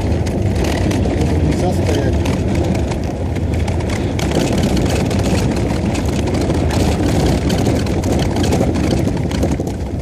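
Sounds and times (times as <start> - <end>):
car engine and road rumble: 0.0 - 10.0
tyres crackling through snow: 0.0 - 10.0.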